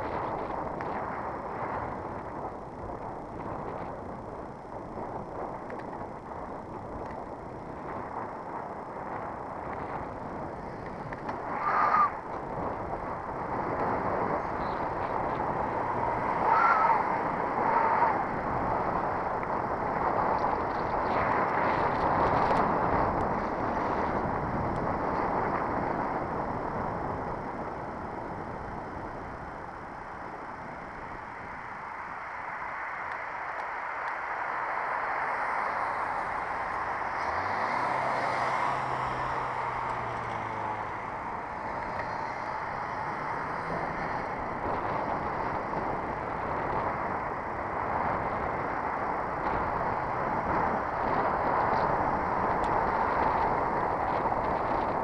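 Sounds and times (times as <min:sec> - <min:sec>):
tyre noise on road: 0:00.0 - 0:55.0.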